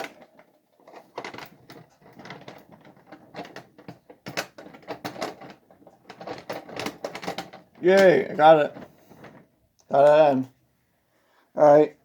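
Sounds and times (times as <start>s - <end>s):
model train car clicking and clattering: 0.0s - 10.3s.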